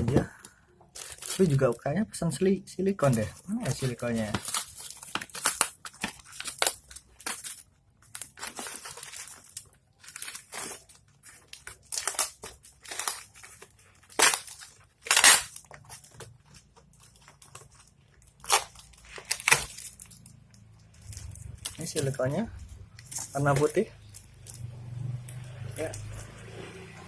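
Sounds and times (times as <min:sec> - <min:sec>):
plastic packaging crinkling: 0:00.0 - 0:24.7.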